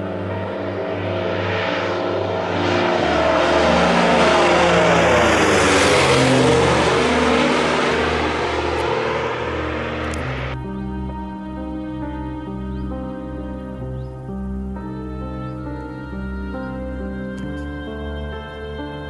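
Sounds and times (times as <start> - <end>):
trance music: 0.0 - 17.2
jet airliner passing: 0.0 - 19.0.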